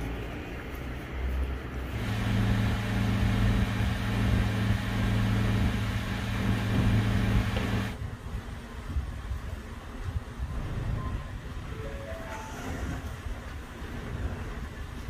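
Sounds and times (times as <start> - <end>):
mechanical hum with rushing noise: 0.0 - 15.0.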